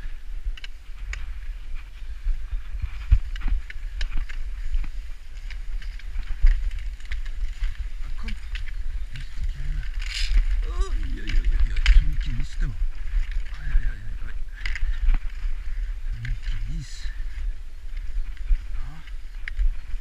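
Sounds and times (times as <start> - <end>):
low wind rumble: 0.0 - 20.0
skis sliding on snow: 0.7 - 20.0.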